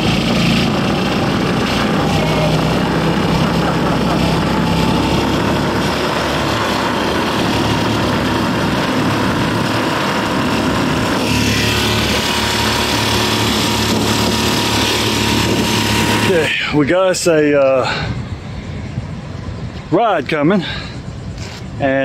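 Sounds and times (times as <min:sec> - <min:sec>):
outboard motor running: 0:00.0 - 0:18.2.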